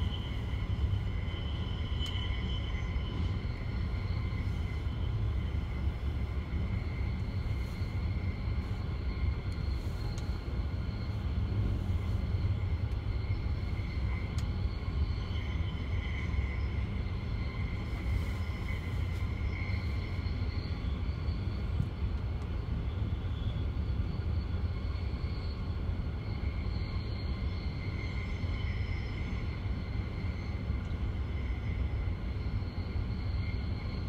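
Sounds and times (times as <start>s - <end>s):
faint high whine: 0.0s - 34.0s
train rumbling on rails: 0.0s - 34.0s.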